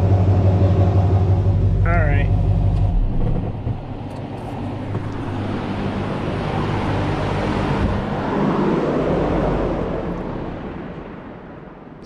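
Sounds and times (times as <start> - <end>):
diesel engine running: 0.0 - 10.1.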